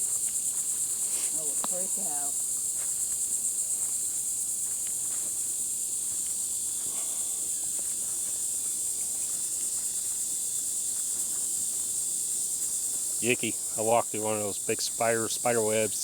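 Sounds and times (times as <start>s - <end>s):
faint footsteps on trail: 0.0s - 16.0s
insects droning: 0.0s - 16.0s.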